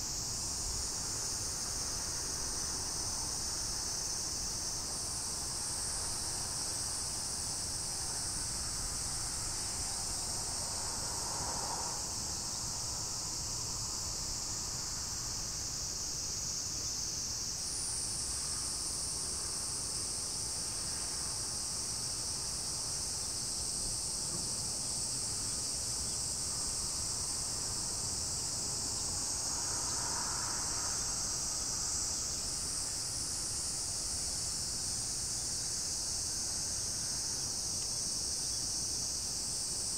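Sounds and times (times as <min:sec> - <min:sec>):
high-pitched insect chorus buzzing: 0:00.0 - 0:39.9.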